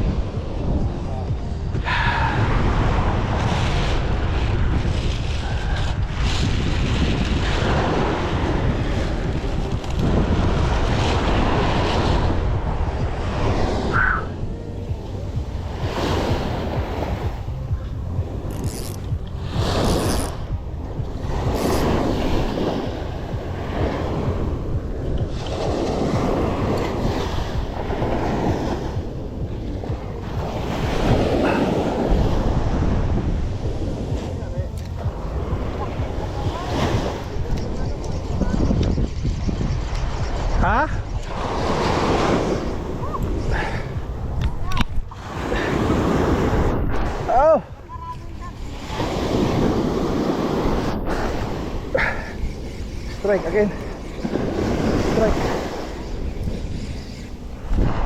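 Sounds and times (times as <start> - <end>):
sea waves: 0.0 - 38.2, 39.9 - 58.0
wind buffeting microphone: 0.0 - 58.0.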